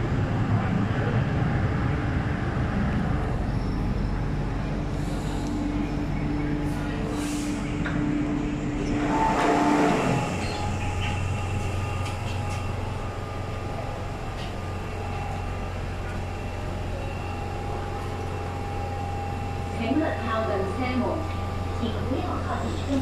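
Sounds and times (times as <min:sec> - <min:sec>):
train equipment hum: 0:00.0 - 0:23.0
train hum: 0:00.0 - 0:23.0.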